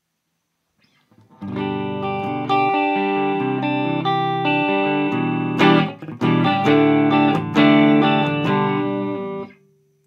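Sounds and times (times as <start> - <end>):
clean electric guitar chords: 1.3 - 9.6.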